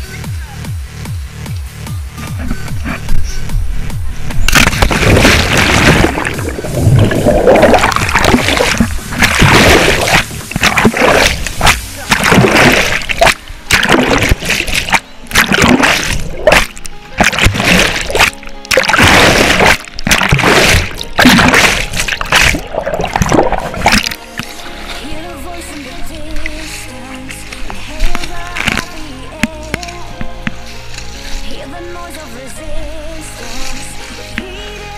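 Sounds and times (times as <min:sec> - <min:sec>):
background music: 0:00.0 - 0:34.9
water splashing and churning: 0:02.4 - 0:34.9.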